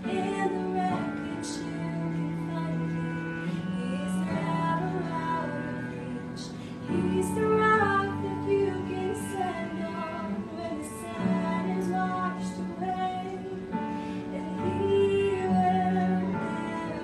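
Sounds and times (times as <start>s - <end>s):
instrumental backing: 0.0s - 17.0s
woman singing: 0.0s - 17.0s.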